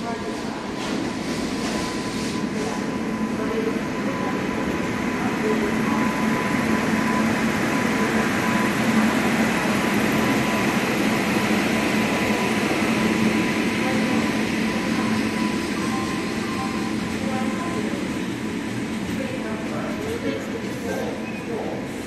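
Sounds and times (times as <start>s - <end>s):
electric locomotive rolling past: 0.0s - 22.0s.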